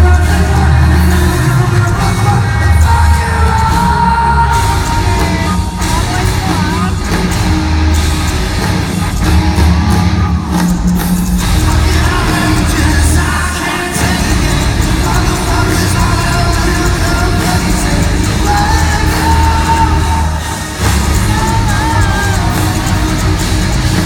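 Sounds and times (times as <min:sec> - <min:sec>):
live rock band with singing: 0:00.0 - 0:24.0.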